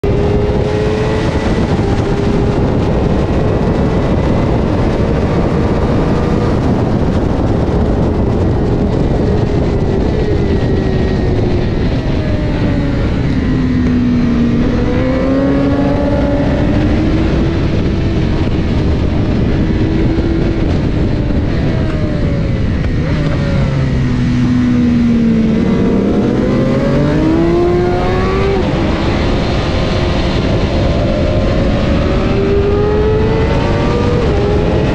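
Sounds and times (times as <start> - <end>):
motorcycle engine revving: 0.0 - 34.9
wind rush: 0.0 - 34.9.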